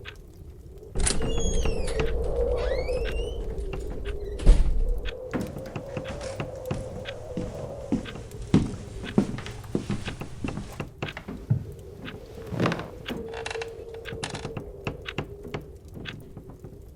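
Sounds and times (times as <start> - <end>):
irregular knocks and clicks: 0.0 - 16.9.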